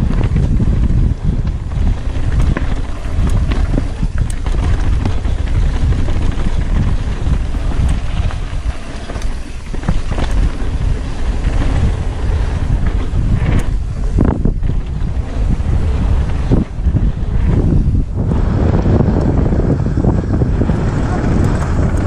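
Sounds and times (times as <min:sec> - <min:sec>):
bike knocks and rattles: 0:00.0 - 0:22.0
wind buffeting microphone: 0:00.0 - 0:22.0.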